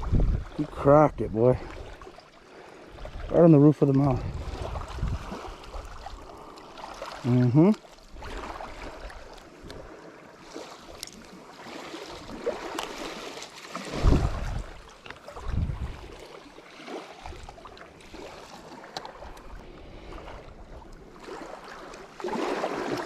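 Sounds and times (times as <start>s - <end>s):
water: 0.0s - 23.0s
wind: 0.0s - 23.0s.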